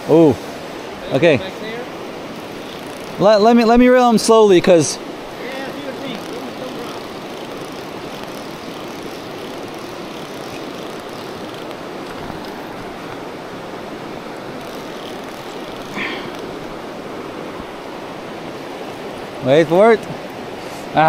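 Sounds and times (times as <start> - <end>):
river flowing over stones: 0.0 - 21.0.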